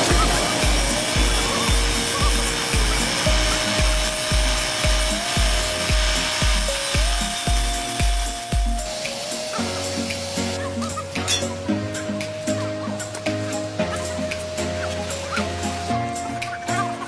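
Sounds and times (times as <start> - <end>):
angle grinder cutting steel: 0.0 - 17.0
background music with steady beat: 0.0 - 17.0.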